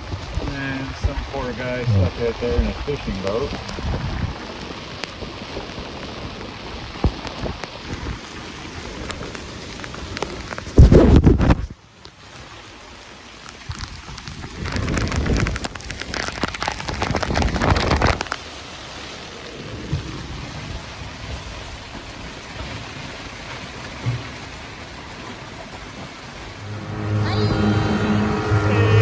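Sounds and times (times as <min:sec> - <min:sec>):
heavy rain on canvas: 0:00.0 - 0:27.2.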